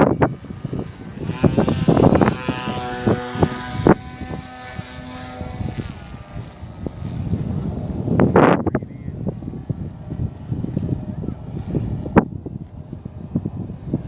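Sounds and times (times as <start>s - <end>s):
model plane motor whining: 0.0s - 14.0s
wind buffeting microphone: 0.0s - 14.0s.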